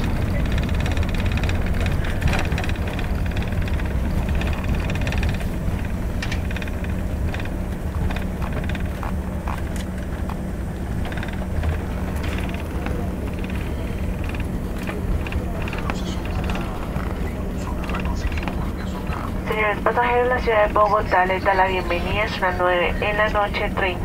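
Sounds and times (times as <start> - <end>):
cabin rattles and clicks: 0.0 - 19.2
jet engines rumbling: 0.0 - 24.0.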